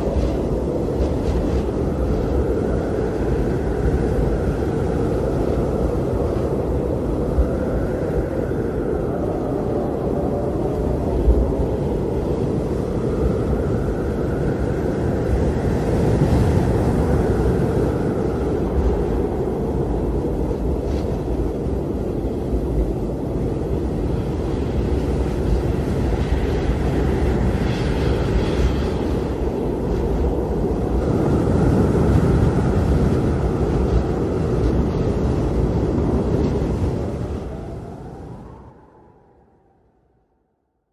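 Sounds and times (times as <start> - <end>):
jet airliner cabin noise: 0.0 - 39.1.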